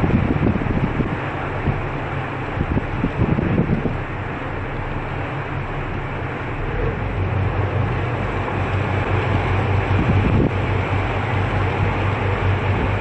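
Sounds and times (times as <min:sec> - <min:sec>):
constant rushing noise: 0:00.0 - 0:13.0
low engine drone: 0:00.0 - 0:13.0.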